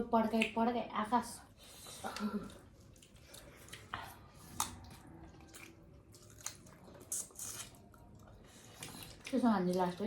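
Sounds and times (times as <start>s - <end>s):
wet chewing and mouth smacking: 1.8s - 10.0s.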